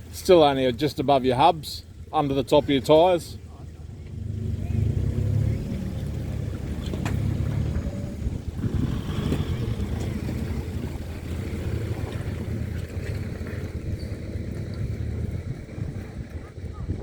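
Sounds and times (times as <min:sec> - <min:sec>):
engine running at low revs: 0:00.0 - 0:17.0
water washing around vehicle: 0:00.0 - 0:17.0.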